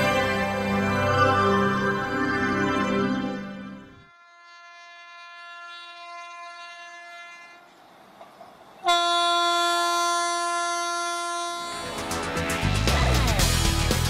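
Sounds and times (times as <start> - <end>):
train horn blasting: 0.0 - 7.8, 8.8 - 12.8.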